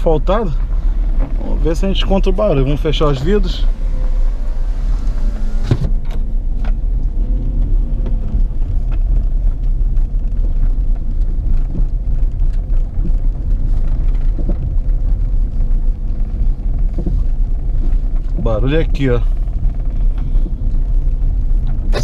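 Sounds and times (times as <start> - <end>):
engine and tyres rumbling: 0.0 - 22.0
suspension knocks: 0.5 - 22.0.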